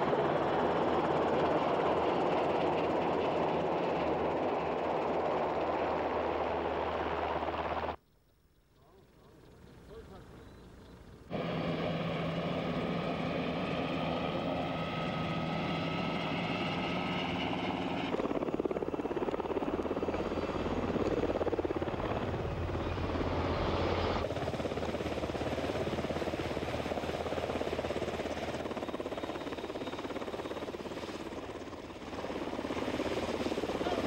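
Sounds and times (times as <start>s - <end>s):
helicopter rotor beat: 0.0s - 8.0s, 8.8s - 34.0s
helicopter turbine whine: 0.0s - 8.0s, 8.8s - 34.0s.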